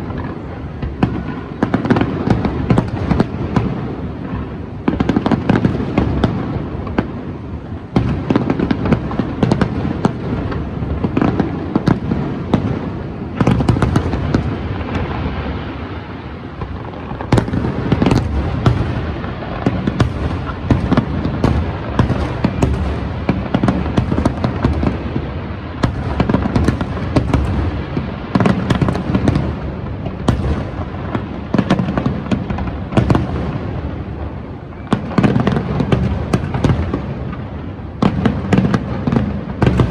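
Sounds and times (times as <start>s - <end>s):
fireworks bangs and booms: 0.0s - 39.9s.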